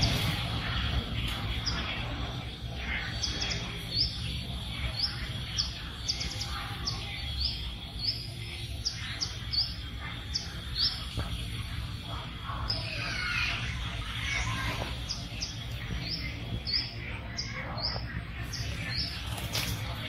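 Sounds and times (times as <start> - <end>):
faint outdoor hum: 0.0 - 20.0
small bird chirping: 0.0 - 20.0.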